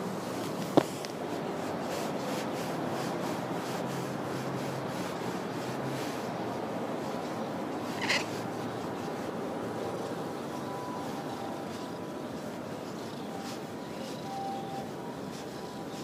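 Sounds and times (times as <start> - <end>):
rubbing against microphone: 0.1 - 16.0.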